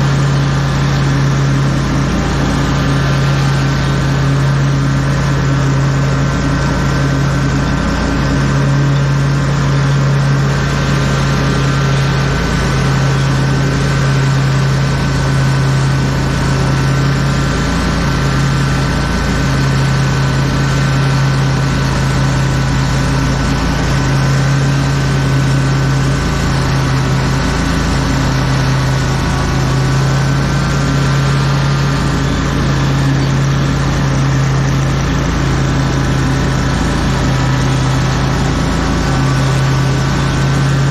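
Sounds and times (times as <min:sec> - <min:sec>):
lawn mower engine running: 0:00.0 - 0:40.9.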